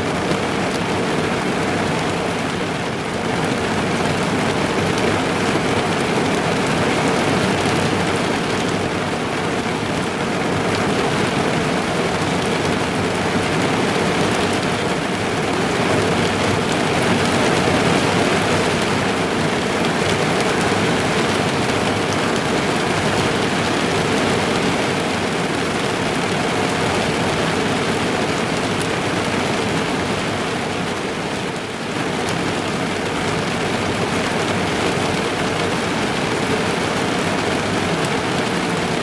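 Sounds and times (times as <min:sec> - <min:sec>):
heavy rain on car roof: 0:00.0 - 0:39.0.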